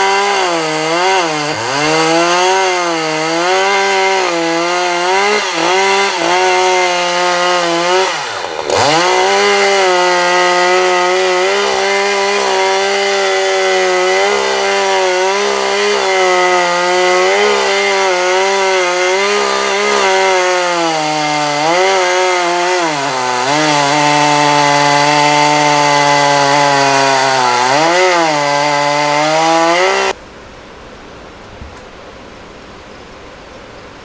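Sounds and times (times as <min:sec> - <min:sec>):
chainsaw cutting log: 0:00.0 - 0:30.2.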